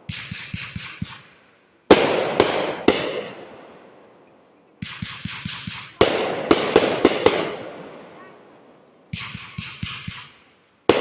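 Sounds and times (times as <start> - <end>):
fireworks bangs with crackling: 0.0 - 11.0
small firework pops: 0.1 - 11.0.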